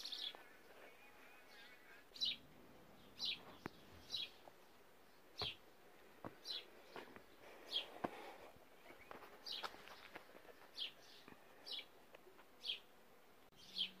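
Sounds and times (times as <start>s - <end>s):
bird chirping: 0.0s - 5.7s, 6.3s - 12.0s, 12.6s - 12.9s, 13.5s - 14.0s.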